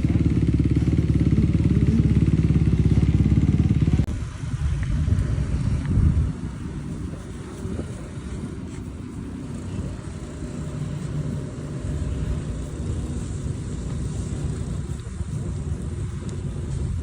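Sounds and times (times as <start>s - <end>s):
motocross bike engine running: 0.0s - 17.0s.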